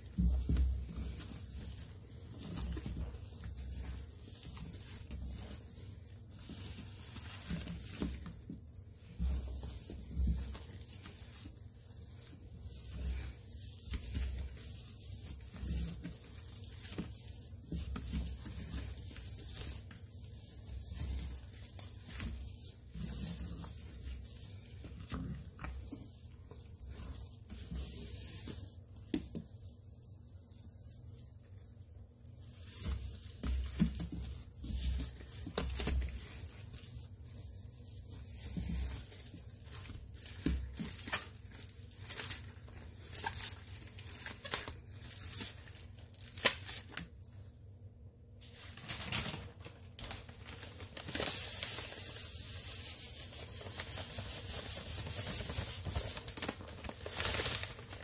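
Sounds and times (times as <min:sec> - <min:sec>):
soft crackles: 0:00.0 - 0:47.7, 0:48.4 - 0:58.0
wet squishing of paste: 0:00.0 - 0:47.8.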